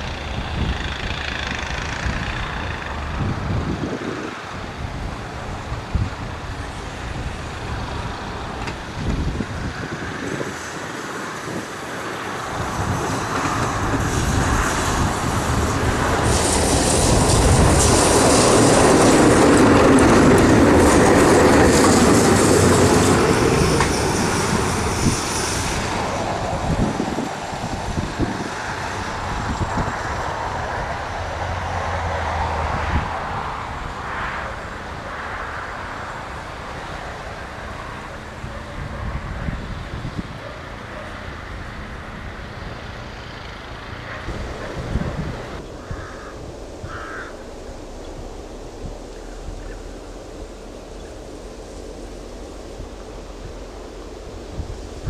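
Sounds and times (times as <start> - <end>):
tram wheels on rails: 0.0 - 55.0.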